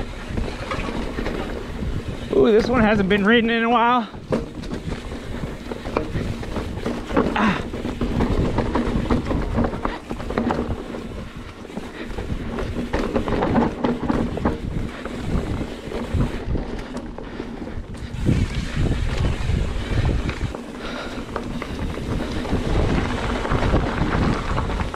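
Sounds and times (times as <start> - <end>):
bike rattling over bumps: 0.0 - 24.9
tyres rustling through leaves: 0.0 - 24.9
wind buffeting microphone: 0.0 - 24.9.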